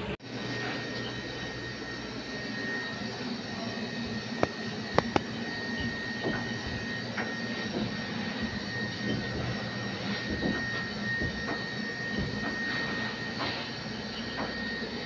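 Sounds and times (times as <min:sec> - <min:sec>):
high whine: 0:00.0 - 0:15.0
kitchen machinery whirring: 0:00.0 - 0:15.0.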